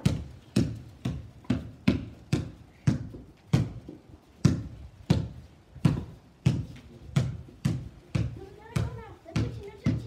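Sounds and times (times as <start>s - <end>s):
basketball bouncing on concrete: 0.0s - 10.0s.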